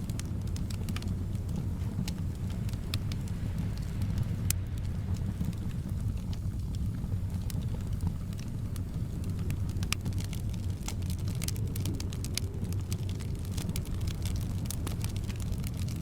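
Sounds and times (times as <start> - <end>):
soft wind rumble: 0.0 - 16.0
wood fire crackling: 0.0 - 16.0.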